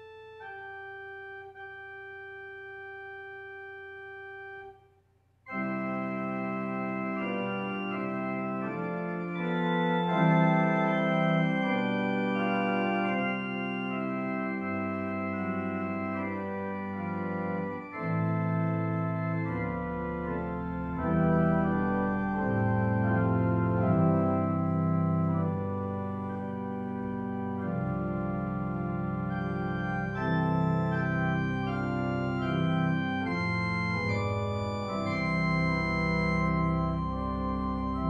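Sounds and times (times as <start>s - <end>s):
deep organ pedal bass: 0.0s - 4.8s, 5.5s - 38.0s
organ playing sustained chords: 0.0s - 4.9s, 5.5s - 38.0s.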